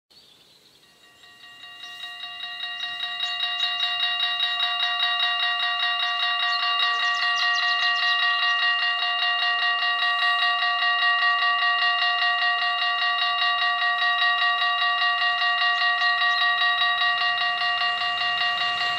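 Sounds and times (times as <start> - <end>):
level-crossing warning bells ringing: 0.8 - 18.9.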